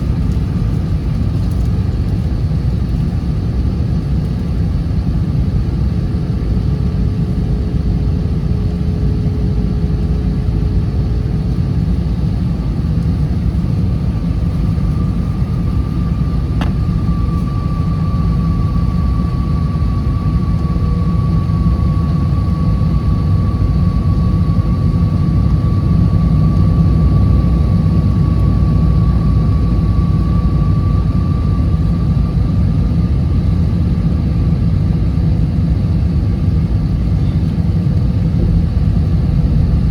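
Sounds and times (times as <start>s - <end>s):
airliner engines rumbling in cabin: 0.0s - 39.9s
faint steady whine: 0.0s - 39.9s.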